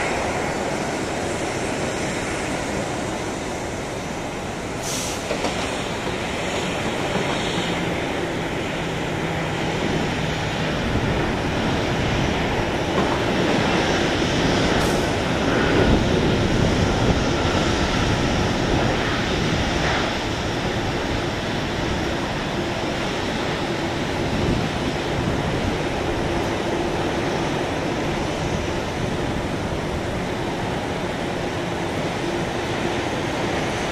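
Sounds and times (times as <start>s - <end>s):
jet engines rushing: 0.0s - 33.9s.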